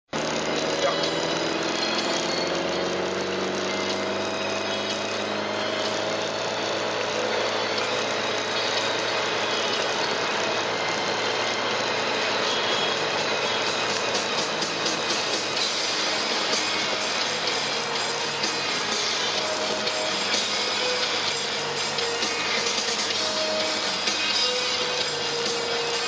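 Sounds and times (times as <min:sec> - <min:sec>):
car engine accelerating: 0:00.0 - 0:26.0
wind and road noise: 0:00.1 - 0:26.0.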